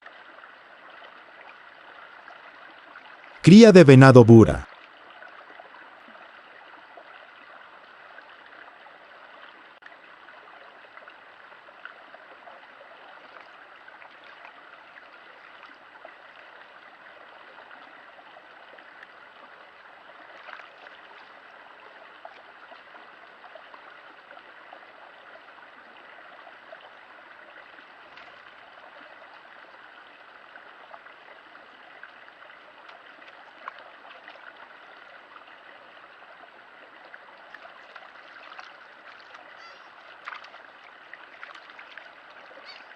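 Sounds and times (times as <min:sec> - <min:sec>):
faint stream flowing: 0:00.0 - 0:42.9.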